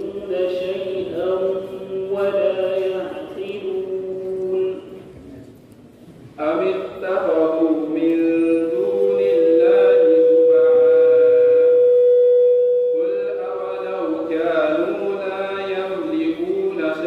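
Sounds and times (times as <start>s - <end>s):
young man chanting melodically: 0.0s - 5.2s, 6.4s - 17.0s.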